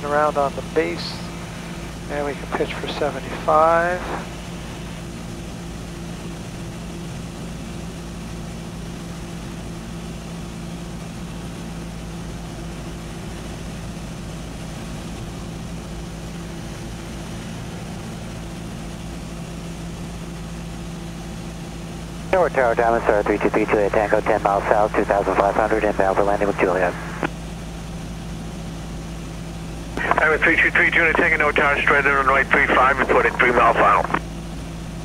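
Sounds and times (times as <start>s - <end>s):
aircraft engine and propeller droning: 0.0s - 35.0s.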